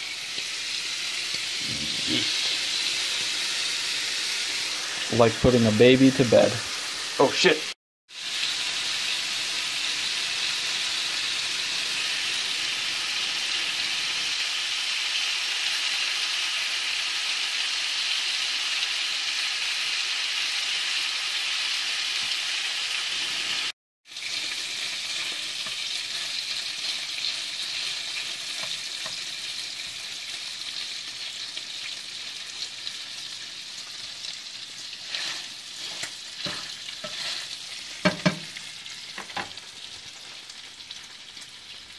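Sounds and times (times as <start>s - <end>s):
bacon sizzling in a pan: 0.0s - 41.9s.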